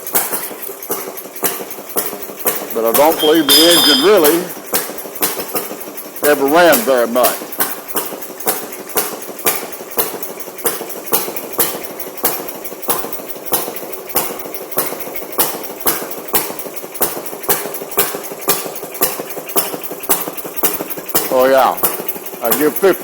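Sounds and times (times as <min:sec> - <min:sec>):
metallic engine rattle: 0:00.0 - 0:23.0
two-stroke engine firing cracks: 0:00.0 - 0:23.0.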